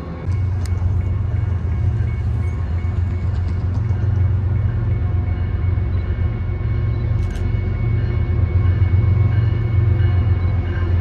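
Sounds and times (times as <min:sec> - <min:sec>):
train passing rumble: 0:00.0 - 0:11.0.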